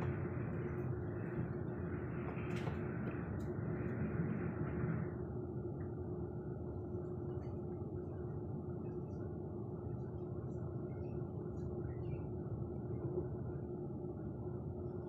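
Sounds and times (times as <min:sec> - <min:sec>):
steady hum: 0:00.0 - 0:15.0
train rumbling inside carriage: 0:00.0 - 0:15.0.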